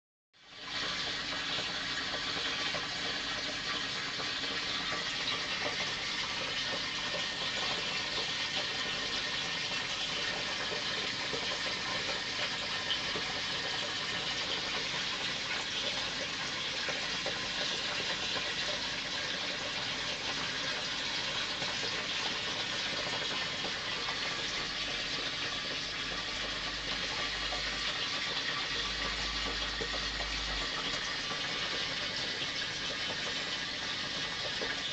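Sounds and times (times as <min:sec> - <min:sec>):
aquarium filter water rushing: 0:00.4 - 0:34.9.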